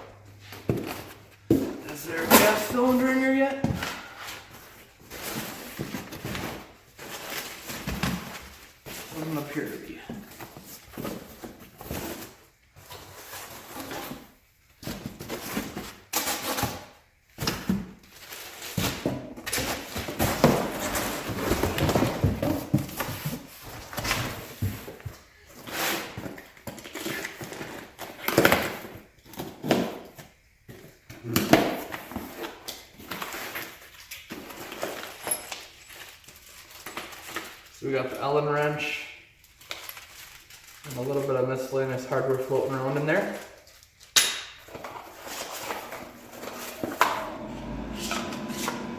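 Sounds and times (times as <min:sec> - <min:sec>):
rustling of packing material: 0:00.3 - 0:29.6, 0:32.0 - 0:46.2.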